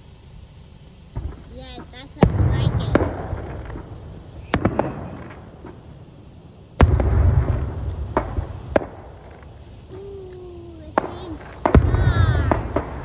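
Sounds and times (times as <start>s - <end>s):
fireworks booming and cracking: 0.0s - 13.0s.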